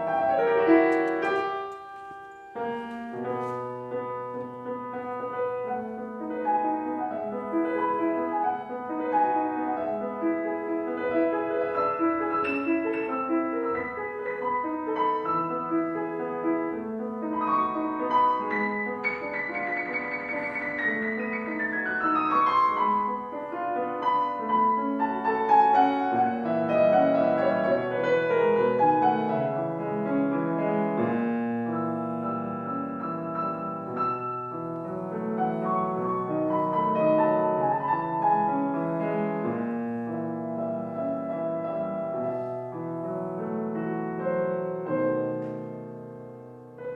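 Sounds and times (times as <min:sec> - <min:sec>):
solo piano piece: 0:00.0 - 0:46.9.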